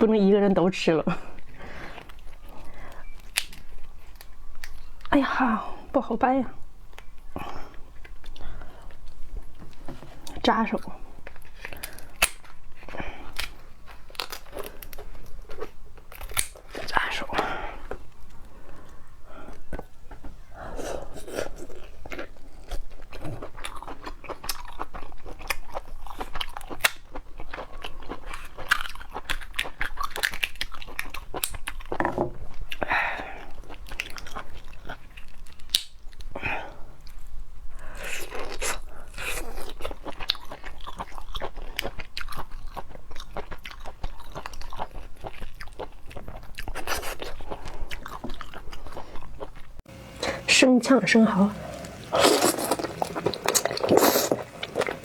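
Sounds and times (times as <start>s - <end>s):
person chewing and crunching: 1.1s - 5.3s, 6.6s - 49.9s, 51.6s - 55.0s.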